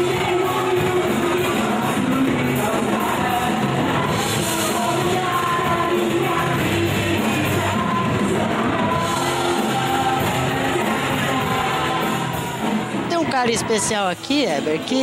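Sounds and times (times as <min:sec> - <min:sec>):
rock band playing live: 0:00.0 - 0:15.0
woman singing: 0:00.0 - 0:15.0.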